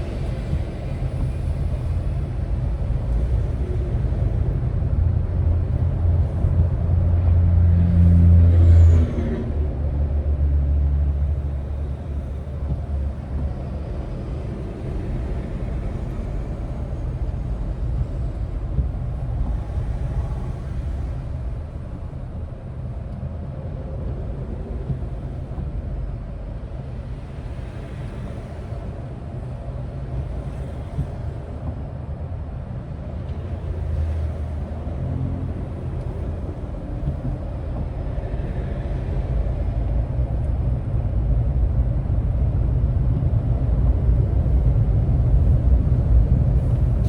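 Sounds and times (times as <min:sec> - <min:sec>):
truck diesel engine droning: 0:00.0 - 0:47.0.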